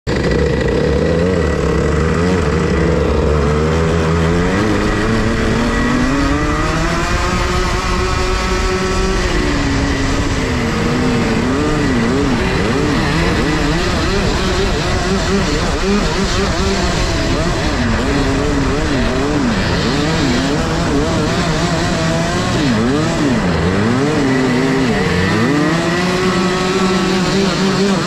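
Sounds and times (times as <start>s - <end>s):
go-kart engine: 0.0s - 28.0s.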